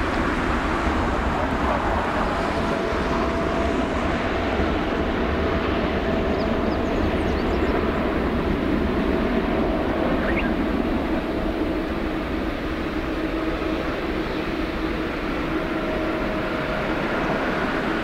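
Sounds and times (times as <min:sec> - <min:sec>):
jet engines on runway: 0:00.0 - 0:18.0.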